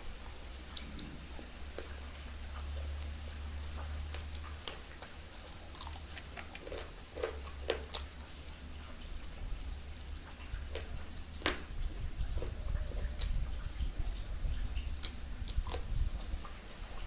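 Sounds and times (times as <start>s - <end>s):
low steady rumble: 0.0s - 17.0s
person chewing: 0.2s - 16.6s.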